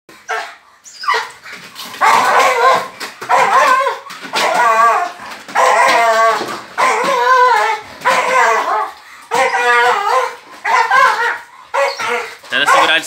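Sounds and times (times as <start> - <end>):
dog barking and whining: 0.1 - 13.0
dog yelping: 0.2 - 13.0.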